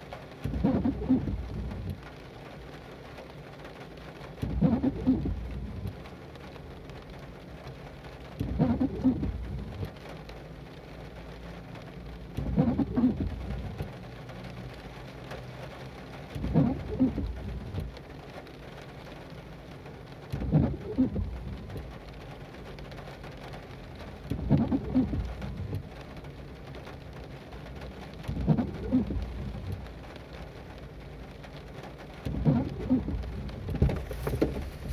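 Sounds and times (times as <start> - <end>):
rain on a car: 0.0 - 34.9
windshield wipers sweeping: 0.0 - 34.9.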